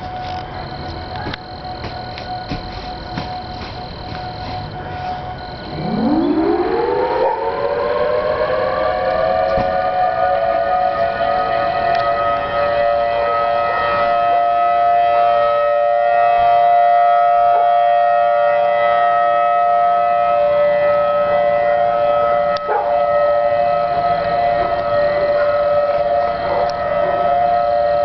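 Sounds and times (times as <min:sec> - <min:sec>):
warning siren steady tone: 0:00.0 - 0:28.0.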